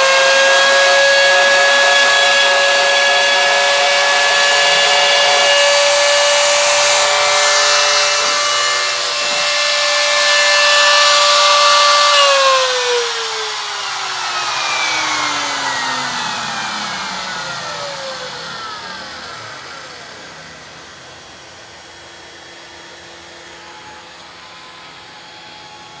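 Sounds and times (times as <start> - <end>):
spindle motor whine: 0.0 - 26.0.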